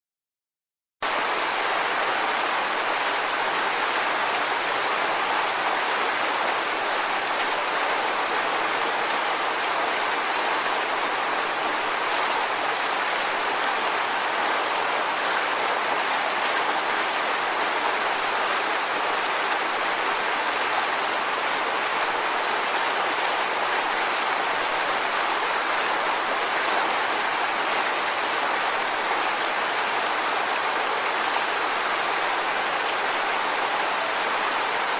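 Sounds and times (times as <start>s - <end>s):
waterfall rushing: 1.1s - 34.9s.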